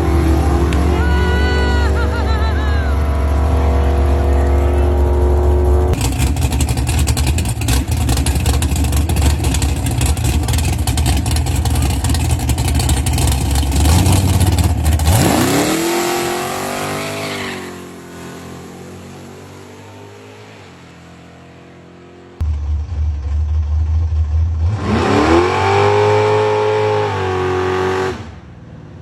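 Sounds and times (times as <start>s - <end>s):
car engine running hard: 0.0s - 29.0s.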